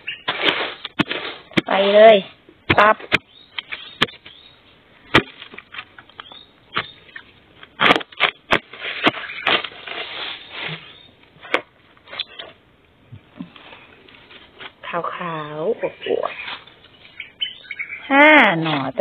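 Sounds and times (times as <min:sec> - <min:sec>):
dry leaves and earth crackling: 0:00.0 - 0:19.0.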